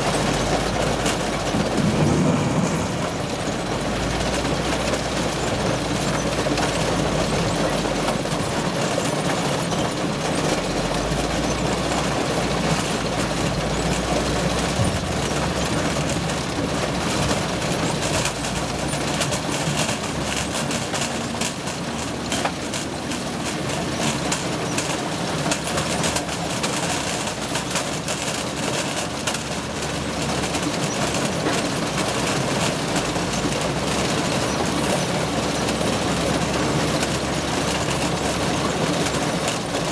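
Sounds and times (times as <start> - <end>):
engine and shaker drone: 0.0 - 39.9.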